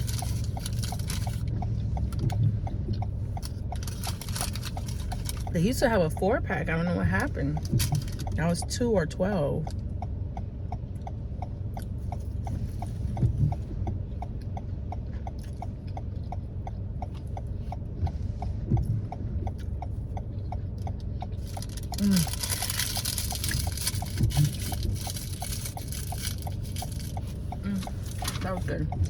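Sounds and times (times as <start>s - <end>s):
car cabin rumble: 0.0s - 29.0s
turn signal ticking: 0.0s - 29.0s.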